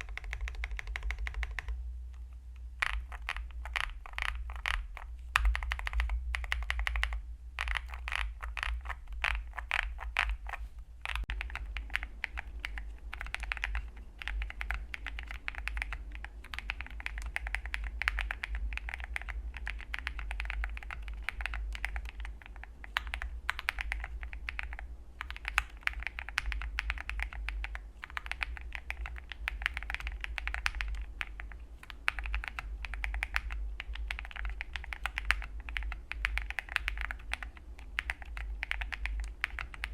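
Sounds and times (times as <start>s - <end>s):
mechanical keyboard keystroke clacks: 0.0s - 1.8s, 2.8s - 39.9s.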